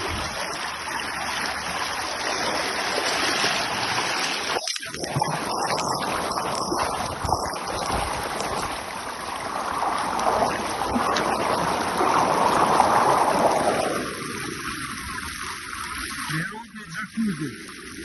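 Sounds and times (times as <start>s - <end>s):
rushing churning water: 0.0s - 18.0s.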